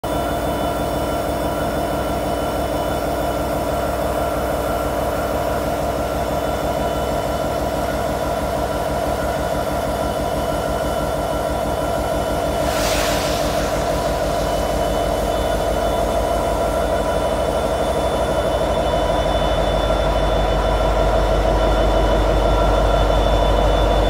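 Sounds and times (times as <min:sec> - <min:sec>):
diesel locomotive idling: 0:00.0 - 0:24.0.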